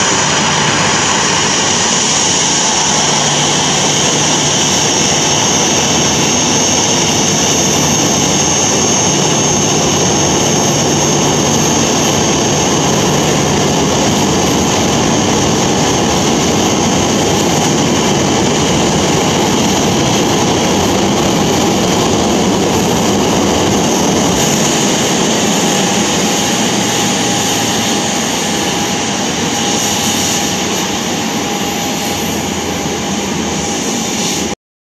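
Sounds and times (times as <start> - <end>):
jet engines idling: 0.0 - 34.6.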